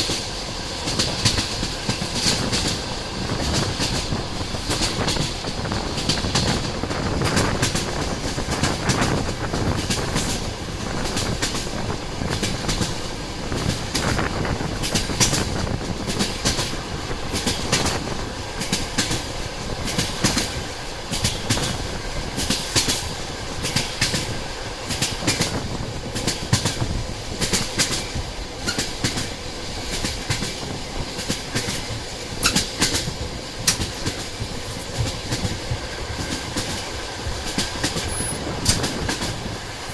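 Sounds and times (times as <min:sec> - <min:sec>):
train rumble: 0:00.0 - 0:39.9
train wheels clacking over rail joints: 0:00.0 - 0:39.9.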